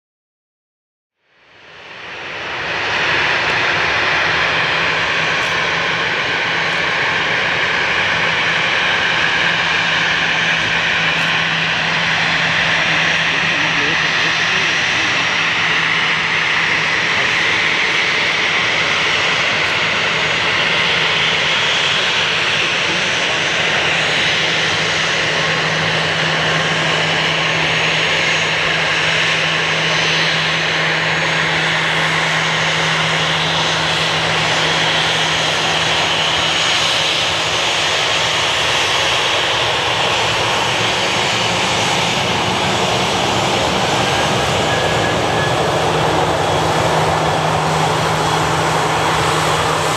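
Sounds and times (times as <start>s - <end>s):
jet engines roaring: 1.4s - 49.9s.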